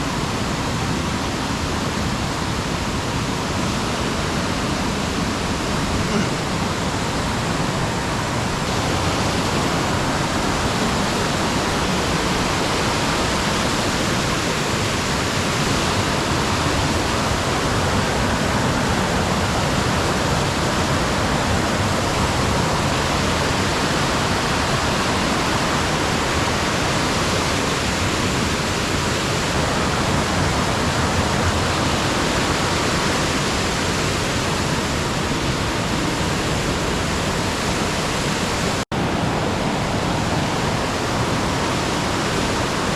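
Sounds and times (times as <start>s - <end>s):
water rushing: 0.0s - 42.9s.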